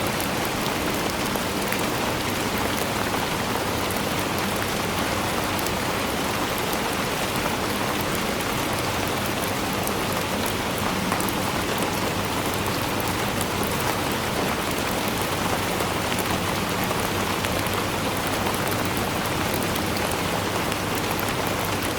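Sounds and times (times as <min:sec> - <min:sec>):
steady rainfall: 0:00.0 - 0:21.9.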